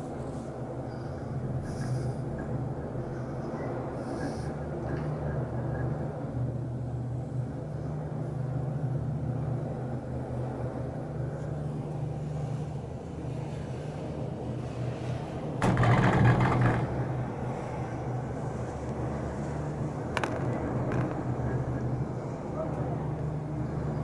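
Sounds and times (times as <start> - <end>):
low hum inside gondola cabin: 0.0 - 24.0.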